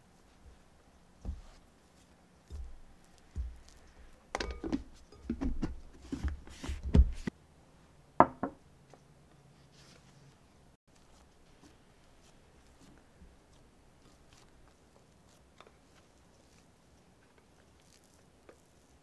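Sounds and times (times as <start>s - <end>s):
hands kneading dough in bowl: 0.0s - 7.3s, 10.9s - 19.0s.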